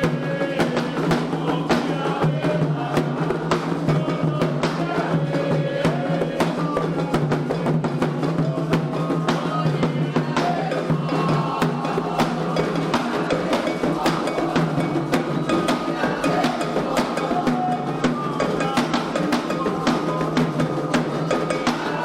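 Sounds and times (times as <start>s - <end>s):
hand drums fast rhythm: 0.0s - 22.0s.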